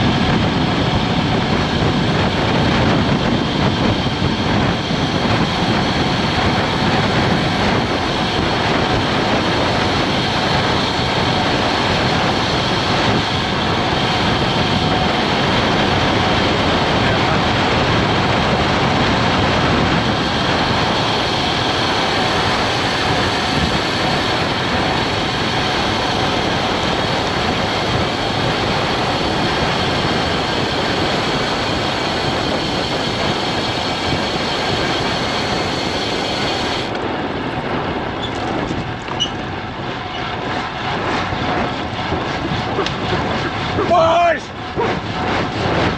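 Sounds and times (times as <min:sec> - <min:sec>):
bike tyres rolling on asphalt: 0:00.0 - 0:45.9
wind rushing on microphone: 0:00.0 - 0:45.9.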